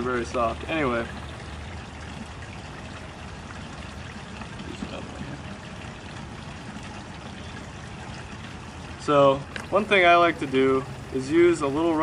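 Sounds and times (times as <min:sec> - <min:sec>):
running water trickling: 0:00.0 - 0:12.0.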